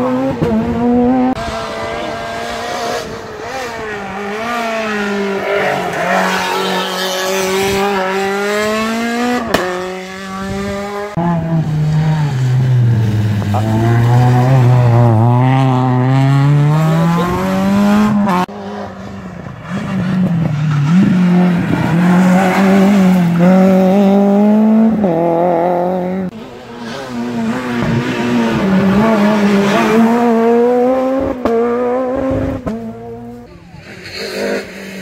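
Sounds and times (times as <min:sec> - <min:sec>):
rally car engine accelerating: 0:00.0 - 0:35.0.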